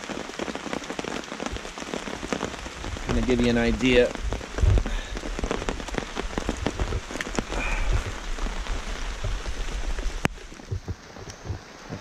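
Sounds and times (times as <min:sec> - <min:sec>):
raindrops striking close by: 0:00.0 - 0:12.0.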